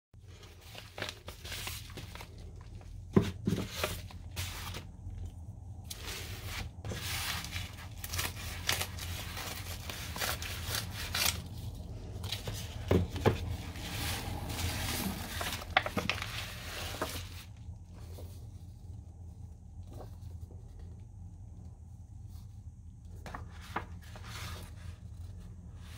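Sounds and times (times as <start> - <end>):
paper crinkling and rustling: 0.2 - 21.6, 22.2 - 25.9.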